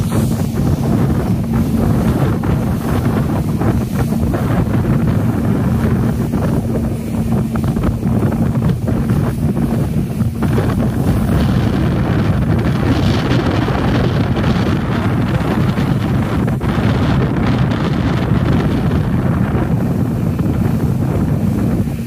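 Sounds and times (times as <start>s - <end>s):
outboard motors running: 0.0s - 22.0s
wind buffeting microphone: 0.0s - 22.0s.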